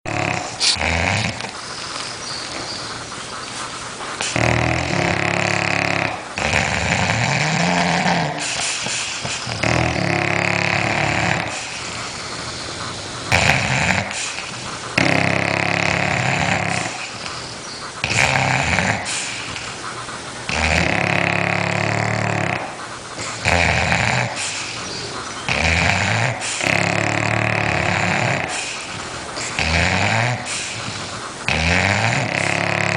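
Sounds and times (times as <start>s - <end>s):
dogs snoring: 0.1s - 32.9s.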